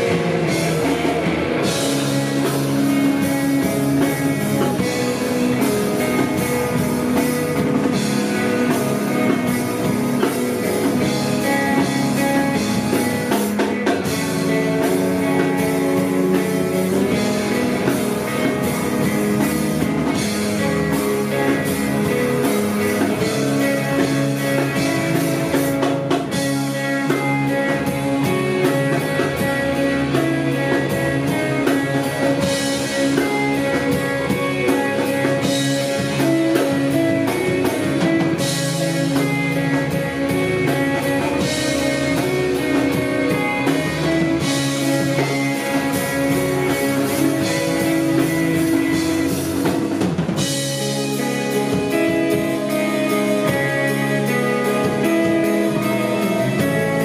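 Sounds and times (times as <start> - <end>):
drum kit with cymbals: 0.0 - 57.0
electric bass: 0.0 - 57.0
electric guitar: 0.0 - 57.0.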